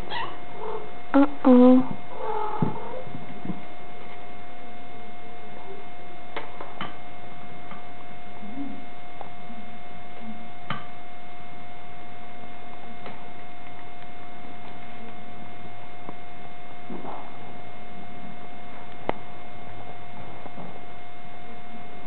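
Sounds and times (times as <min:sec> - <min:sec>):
constant whine: 0:00.0 - 0:22.0
hum and hiss: 0:00.0 - 0:22.0.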